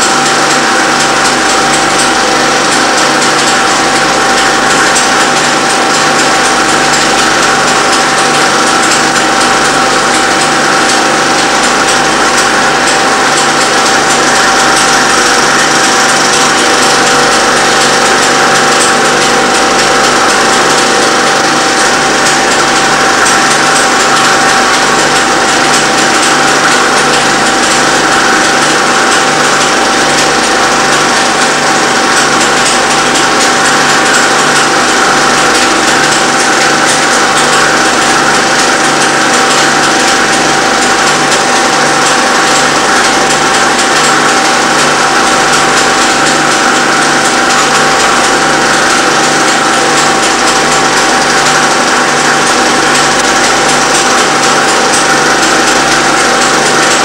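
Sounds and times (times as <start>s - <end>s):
film projector whirring: 0.0s - 57.0s.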